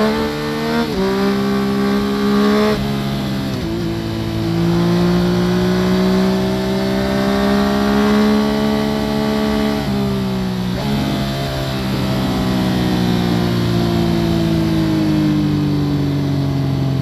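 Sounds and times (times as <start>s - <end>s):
motorcycle engine pulling at speed: 0.0s - 17.0s.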